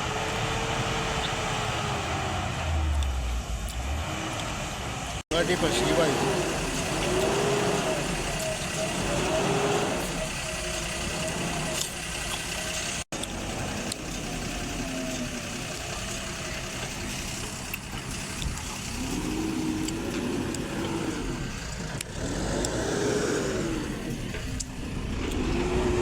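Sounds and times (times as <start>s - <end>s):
heavy diesel engine revving: 0.0s - 26.0s.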